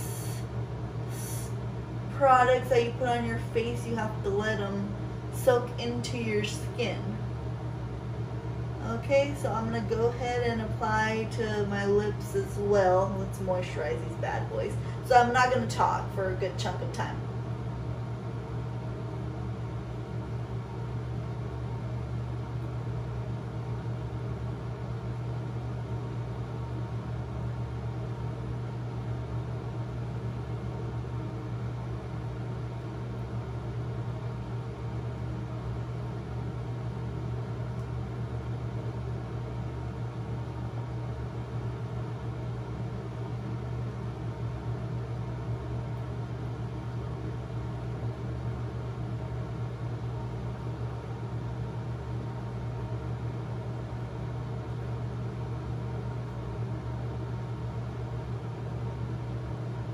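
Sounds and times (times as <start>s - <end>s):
fan humming: 0.0s - 59.9s.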